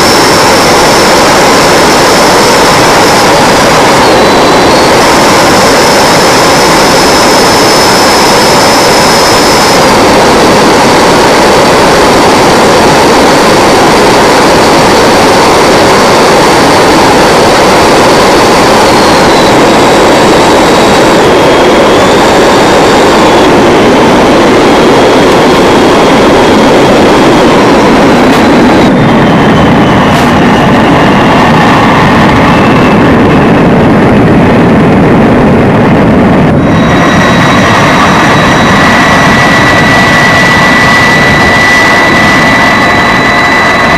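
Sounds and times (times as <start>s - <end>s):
electric ducted fan roar: 0.0s - 43.9s.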